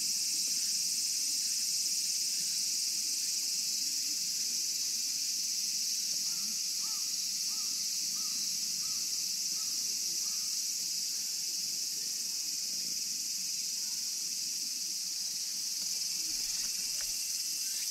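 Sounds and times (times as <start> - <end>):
high-pitched insect chorus: 0.0 - 17.9.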